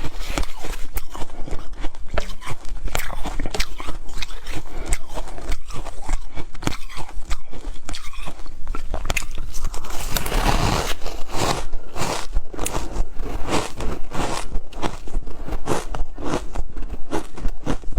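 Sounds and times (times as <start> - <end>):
ice crunching while chewed: 0.0 - 17.9.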